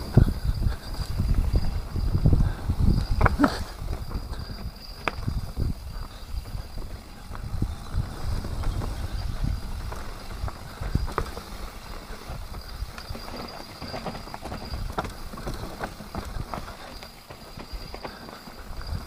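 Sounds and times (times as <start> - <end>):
bike rattling and knocking: 0.0 - 19.0
bike tyres rumbling over dirt: 0.0 - 19.0.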